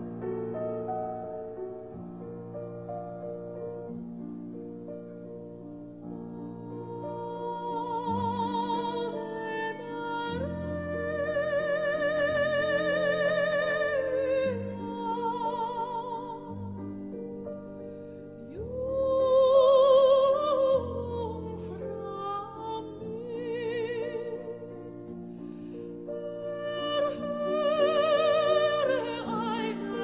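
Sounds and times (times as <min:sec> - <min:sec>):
slow operatic music: 0:00.0 - 0:30.0.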